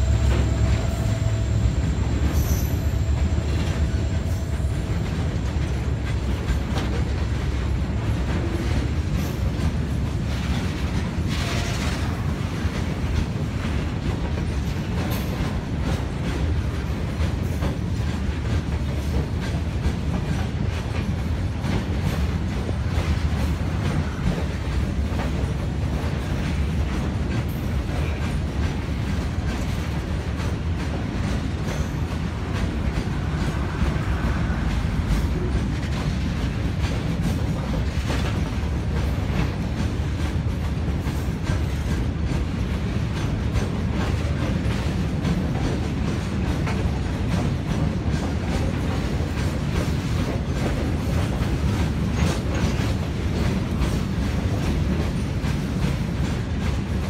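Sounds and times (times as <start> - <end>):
freight train running past: 0.0 - 57.0
wheels clicking over rail joints: 0.0 - 57.0.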